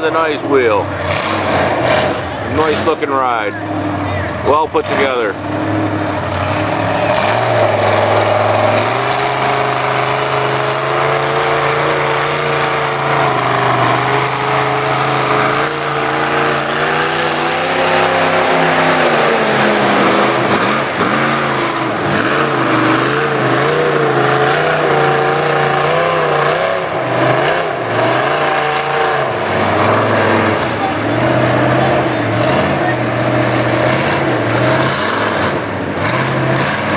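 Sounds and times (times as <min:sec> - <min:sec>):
truck engine revving: 0:00.0 - 0:36.9.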